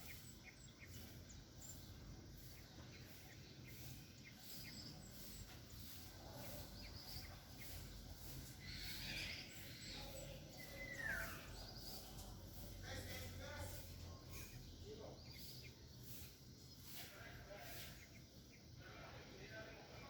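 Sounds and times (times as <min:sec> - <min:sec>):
birds chirping faintly: 0:00.0 - 0:20.0.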